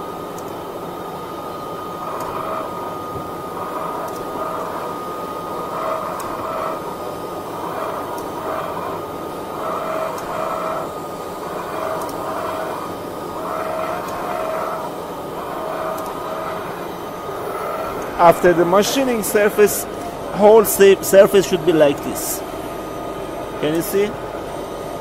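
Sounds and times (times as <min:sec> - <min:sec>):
lathe machine whine: 0:00.0 - 0:25.0
harsh metal cutting noise: 0:02.0 - 0:24.2.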